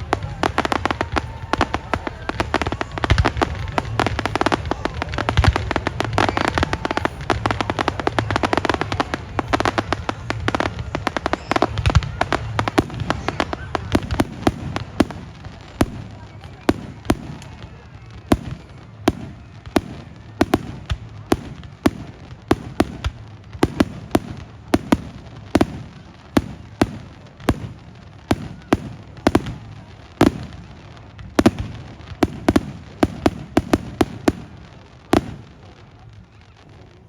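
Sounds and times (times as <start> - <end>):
fireworks bursting with bangs: 0.0 - 37.0.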